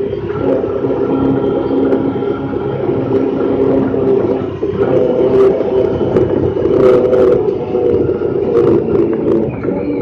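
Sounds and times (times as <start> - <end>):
gravel and tyre rumble: 0.0 - 10.0
utility vehicle engine running: 0.0 - 10.0.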